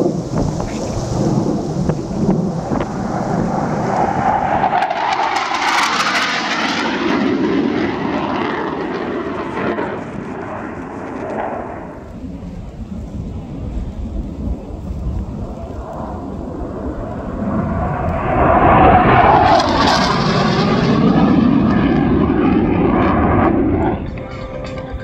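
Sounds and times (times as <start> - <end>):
fighter jet flying past: 0.0 - 24.2.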